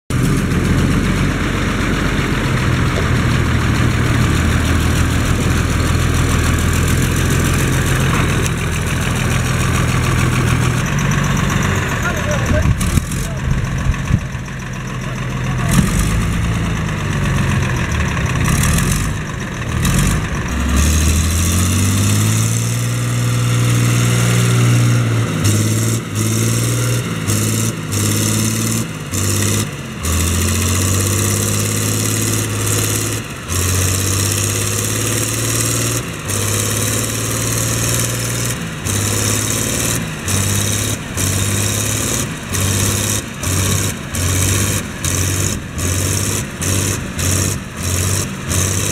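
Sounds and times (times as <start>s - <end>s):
diesel tractor engine under load: 0.1s - 48.9s.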